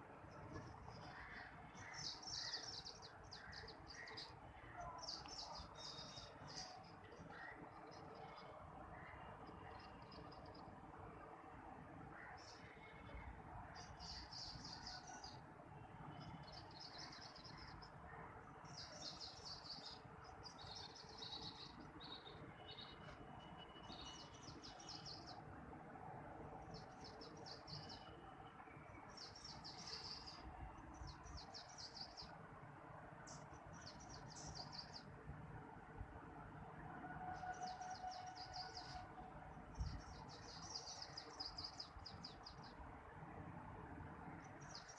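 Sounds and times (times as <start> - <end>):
low background hiss: 0.0 - 44.9.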